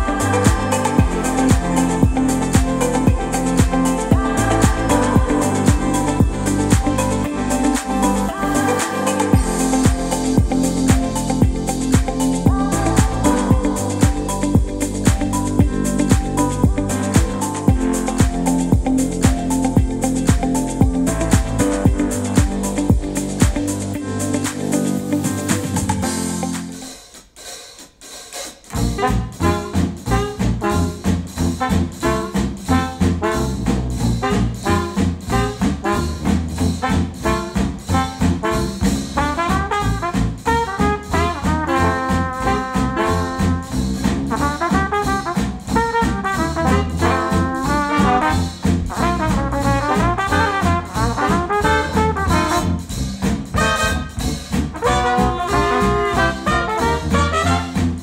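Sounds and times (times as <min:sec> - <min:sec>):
jazz music with brass section: 0:00.0 - 0:27.0, 0:28.7 - 0:58.0.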